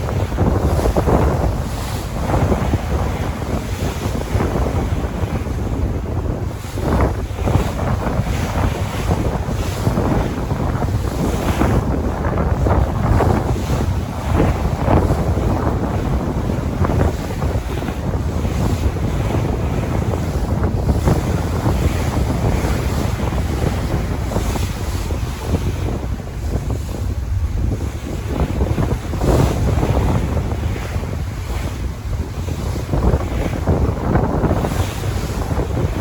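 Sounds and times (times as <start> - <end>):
sea waves breaking: 0.0 - 36.0
wind rumbling on microphone: 0.0 - 36.0.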